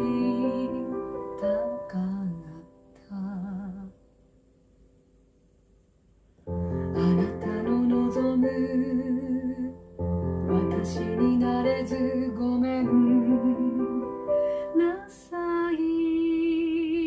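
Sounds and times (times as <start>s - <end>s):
digital piano: 0.0s - 3.9s, 6.4s - 17.0s
woman singing: 0.0s - 4.0s, 6.7s - 17.0s.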